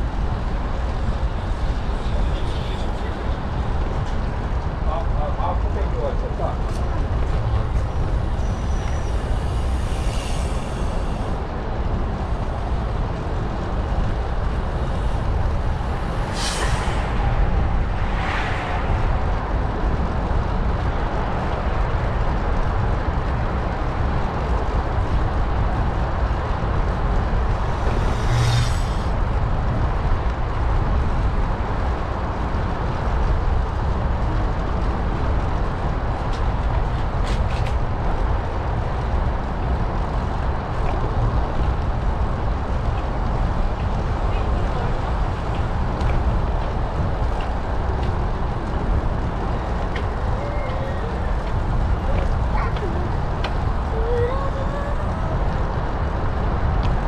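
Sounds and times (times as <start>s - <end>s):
wind rumbling over microphone: 0.0s - 57.0s.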